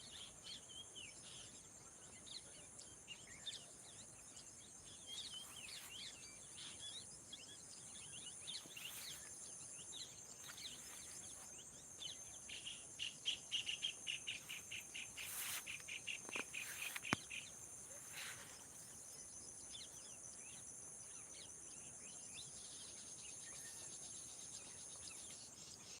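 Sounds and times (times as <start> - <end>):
birds chirping: 0.0 - 26.0
high insect drone: 2.8 - 26.0.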